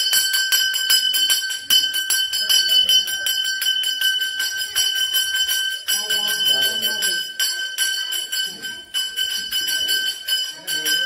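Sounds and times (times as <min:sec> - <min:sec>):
hand bell rung rapidly: 0:00.0 - 0:11.0.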